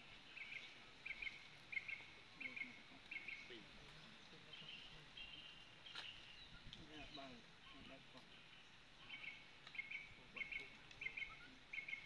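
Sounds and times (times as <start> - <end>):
faint bird chirping: 0.0 - 12.0
quiet outdoor ambience: 0.0 - 12.0.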